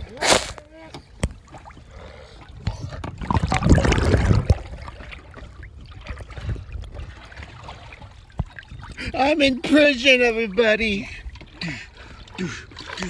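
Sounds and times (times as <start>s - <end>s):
pool water sloshing and splashing: 0.0s - 13.0s.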